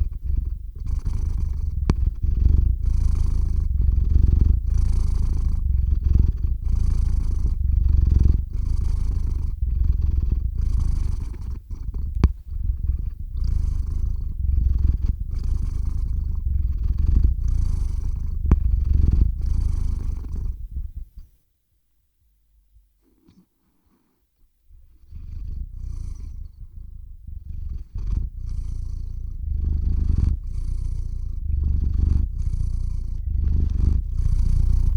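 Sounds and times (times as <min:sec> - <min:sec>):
cat purring: 0:00.0 - 0:21.4, 0:22.6 - 0:34.9.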